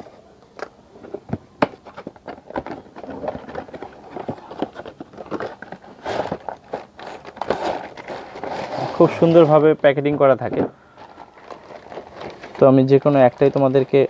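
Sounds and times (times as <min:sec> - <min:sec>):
packaging rustling and crackling: 0:00.6 - 0:14.0.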